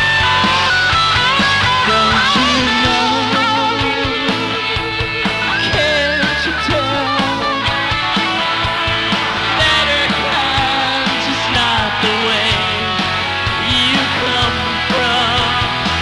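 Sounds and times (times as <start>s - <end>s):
bass guitar: 0.0s - 16.0s
electric guitar bending pitch: 0.0s - 16.0s.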